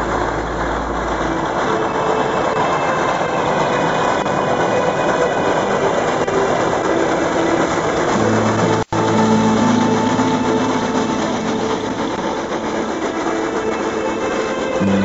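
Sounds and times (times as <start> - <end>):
steam train rushing: 0.0 - 15.0.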